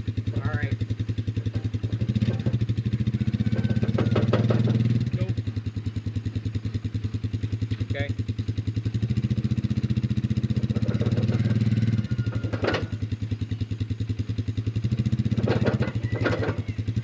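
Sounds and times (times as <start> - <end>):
four-wheeler engine idling: 0.0 - 17.0.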